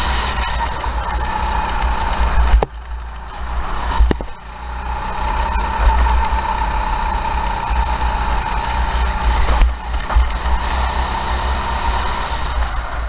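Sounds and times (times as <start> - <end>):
kart engine running at speed: 0.0 - 13.0.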